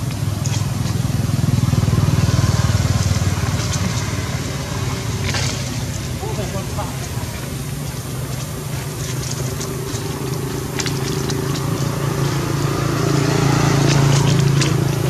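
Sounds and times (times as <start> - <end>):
dry leaves crackling: 0.0 - 15.0
engine droning: 0.0 - 15.0.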